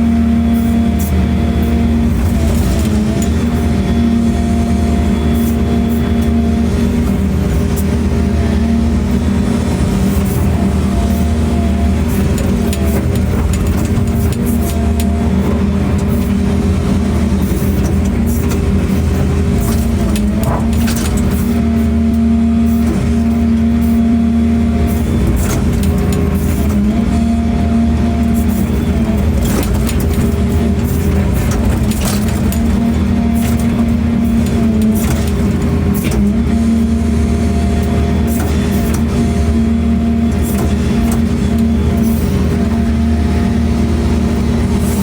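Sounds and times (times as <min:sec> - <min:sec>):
large engine droning: 0:00.0 - 0:45.0.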